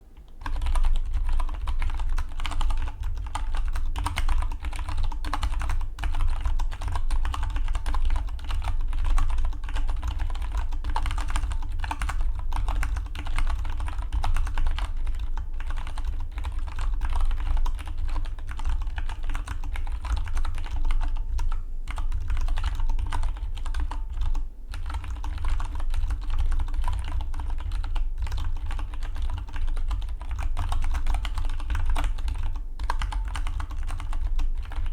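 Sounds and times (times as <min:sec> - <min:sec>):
mechanical keyboard typing: 0:00.4 - 0:34.9.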